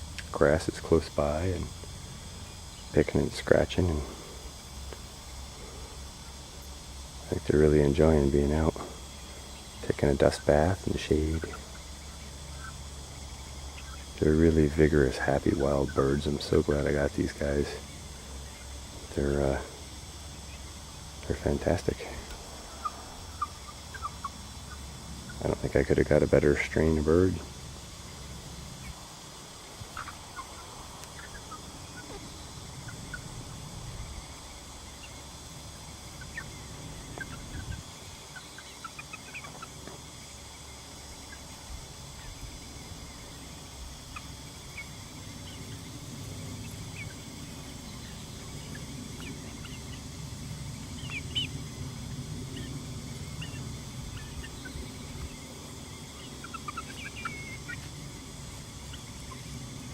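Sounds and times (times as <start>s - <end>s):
chickens clucking: 0.0s - 59.9s
chicks peeping: 0.0s - 59.9s.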